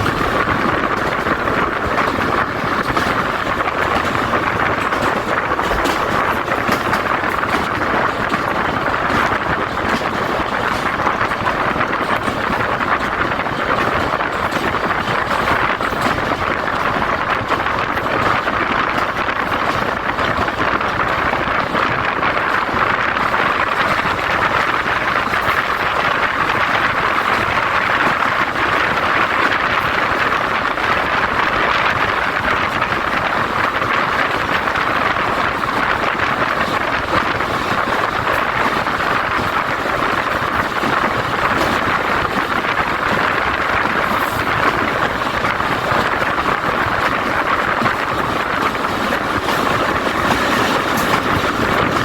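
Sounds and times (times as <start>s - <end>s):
train wheels on track: 0.0s - 52.0s
wind rushing: 0.0s - 52.0s.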